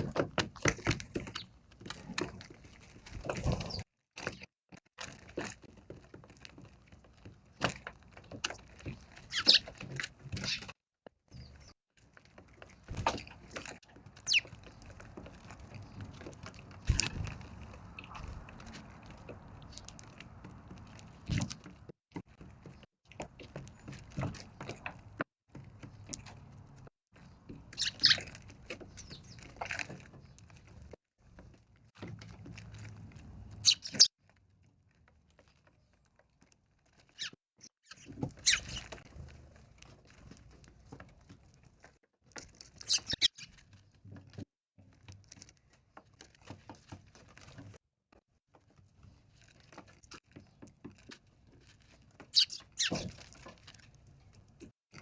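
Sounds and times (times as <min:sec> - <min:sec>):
birds pecking and hopping: 0:00.0 - 0:55.0.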